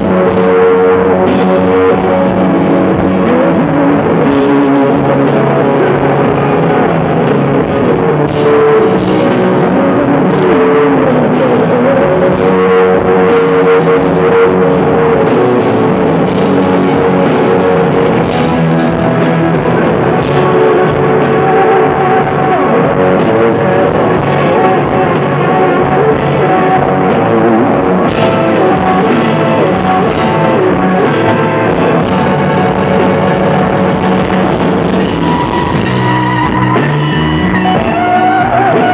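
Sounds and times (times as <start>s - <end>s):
electric guitar: 0.0s - 38.9s
live rock band: 0.0s - 38.9s.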